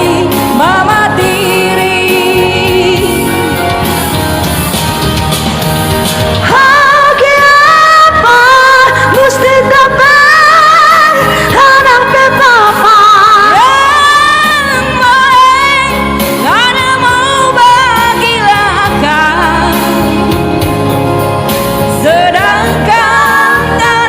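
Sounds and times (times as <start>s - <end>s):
woman singing with vibrato: 0.0s - 4.0s, 6.4s - 21.0s, 21.9s - 24.0s
backing music: 0.0s - 24.0s.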